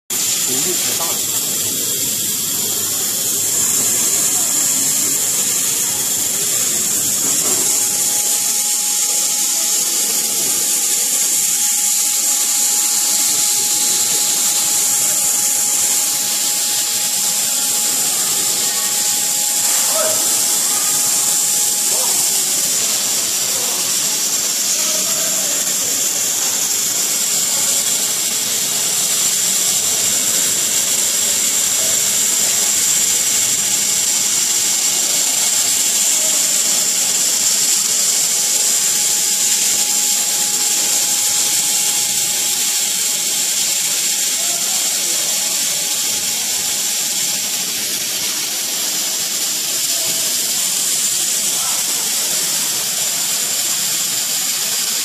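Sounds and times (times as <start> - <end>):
laser cutter hiss and whine: 0.1 - 55.0.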